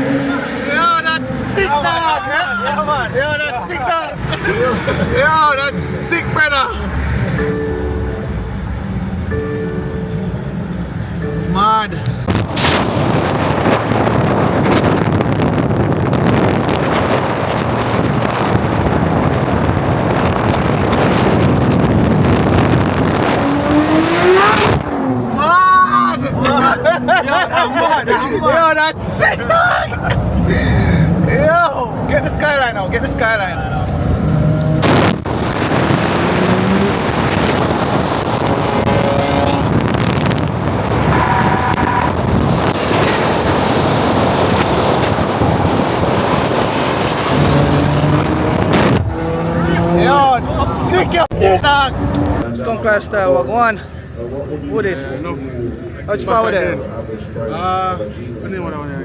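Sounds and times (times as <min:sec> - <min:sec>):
car engine accelerating hard: 0:00.0 - 0:29.0, 0:30.0 - 0:52.5
rush of vehicle noise: 0:00.0 - 0:59.0
wind and road noise: 0:00.0 - 0:59.0.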